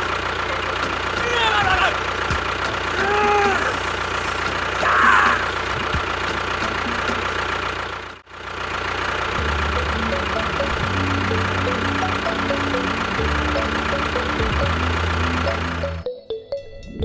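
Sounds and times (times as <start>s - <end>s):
deep pulsing engine rumble: 0.0s - 16.0s
engine idling: 0.0s - 16.0s.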